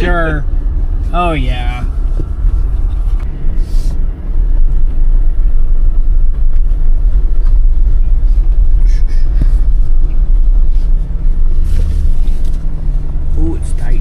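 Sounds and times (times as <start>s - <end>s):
off-road vehicle rumble: 0.0s - 14.0s.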